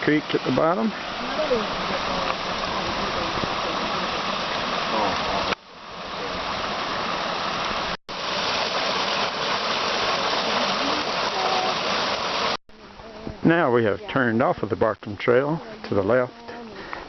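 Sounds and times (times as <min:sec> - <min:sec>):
creek rushing: 0:00.0 - 0:14.4.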